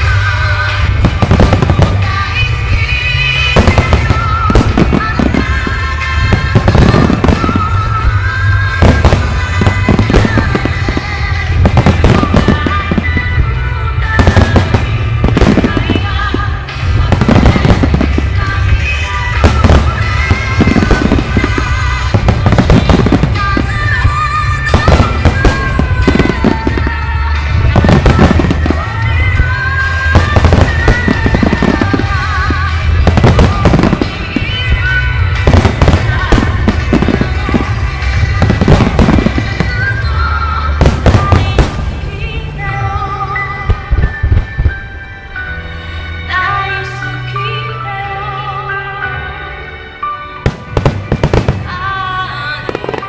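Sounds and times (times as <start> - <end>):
fireworks bangs: 0.0 - 44.9, 50.4 - 53.0
music playing: 0.0 - 53.0.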